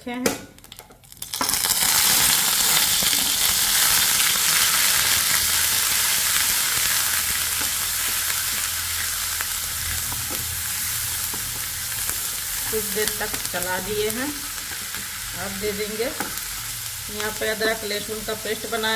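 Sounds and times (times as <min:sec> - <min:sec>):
paste sizzling in hot oil: 0:01.0 - 0:18.9.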